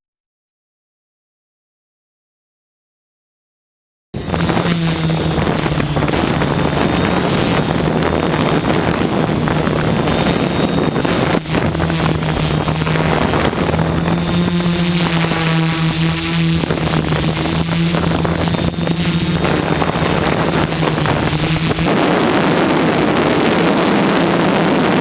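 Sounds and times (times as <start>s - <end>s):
drone propellers humming: 4.2s - 25.0s
wind buffeting microphone: 4.2s - 25.0s.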